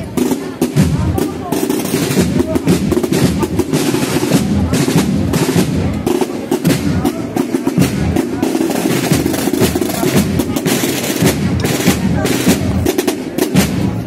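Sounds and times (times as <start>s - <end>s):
bass drum: 0.0s - 14.0s
crowd voices: 0.0s - 14.0s
marching band playing: 0.0s - 14.0s
snare drum rolls: 0.0s - 14.0s.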